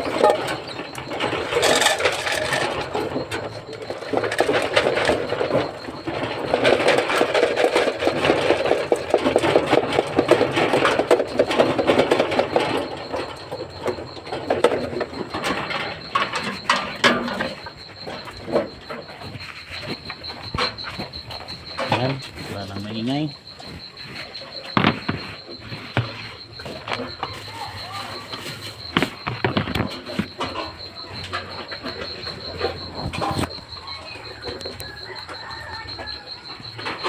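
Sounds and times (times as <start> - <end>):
dogs crunching dry kibble: 0.0 - 37.0.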